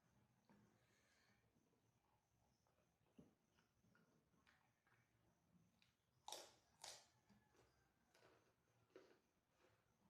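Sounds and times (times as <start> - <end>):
chewing with soft crunches: 0.5 - 10.0.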